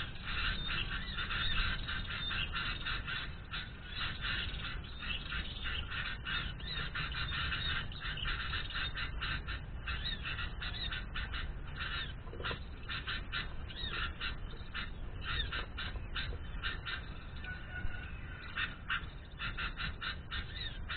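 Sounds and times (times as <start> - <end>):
small birds chattering and chirping: 0.0 - 20.9.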